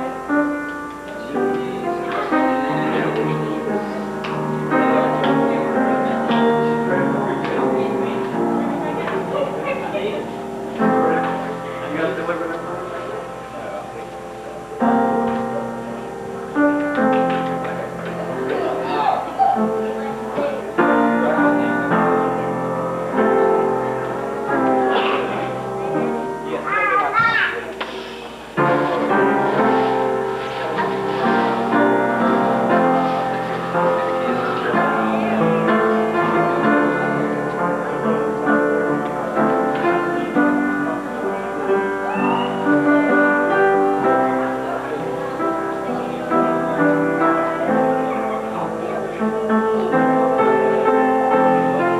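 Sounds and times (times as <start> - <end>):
keyboard playing slow chords: 0.0 - 51.9.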